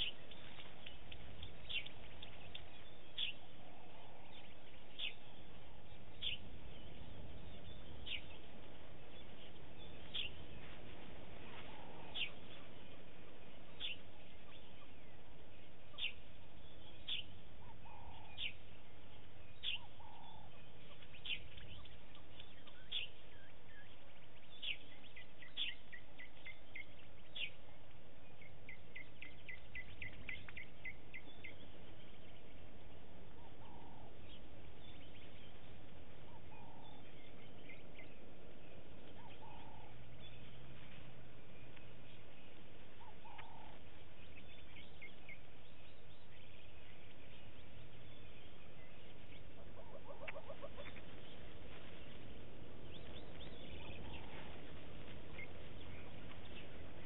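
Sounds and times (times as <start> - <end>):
low outdoor background noise: 0.0 - 57.0.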